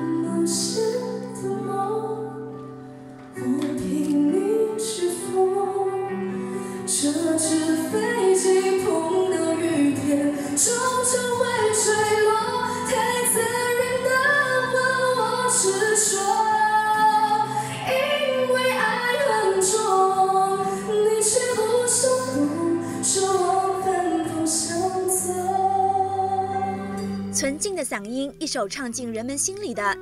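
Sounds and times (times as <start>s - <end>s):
girl singing pop ballad: 0.0s - 27.6s
instrumental backing music: 0.0s - 30.0s.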